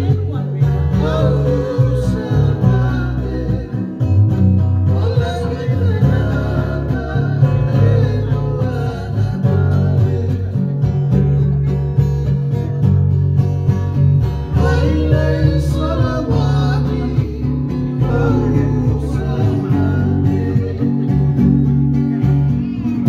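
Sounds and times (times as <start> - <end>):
voices singing: 0.0 - 11.4, 14.2 - 23.0
low bass notes: 0.0 - 23.0
strummed acoustic guitar: 0.0 - 23.0.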